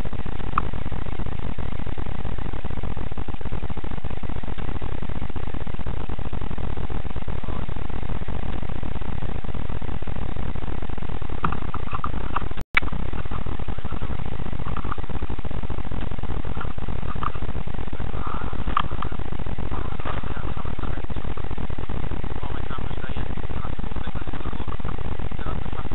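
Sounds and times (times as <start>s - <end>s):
microphone hiss and rumble: 0.0s - 25.9s.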